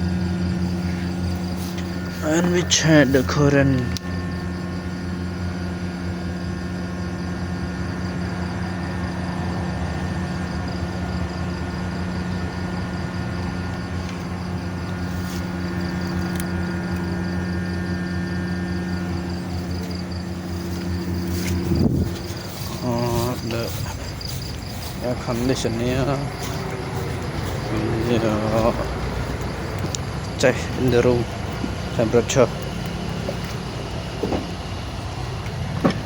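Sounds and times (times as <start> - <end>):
air conditioner humming: 0.0 - 8.5, 9.9 - 36.0
low electrical buzz: 0.0 - 36.0.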